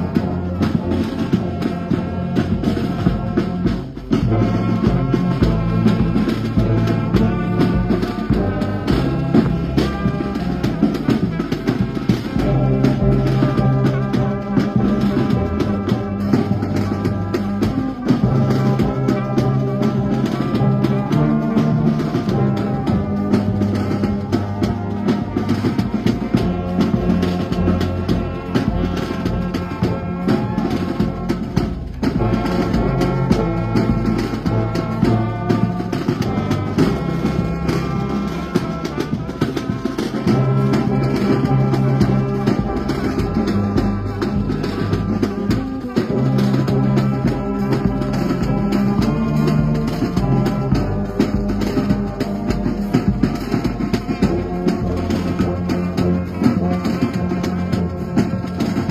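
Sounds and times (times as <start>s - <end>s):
brass band playing: 0.0s - 58.9s
steady drum beat: 0.0s - 58.9s.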